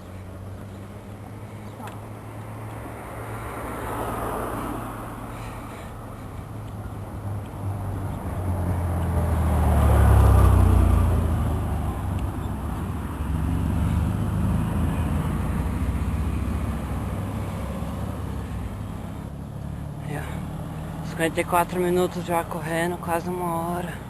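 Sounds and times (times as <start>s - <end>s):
motor vehicle passing close by: 0.0s - 21.5s
passing traffic: 0.0s - 24.0s.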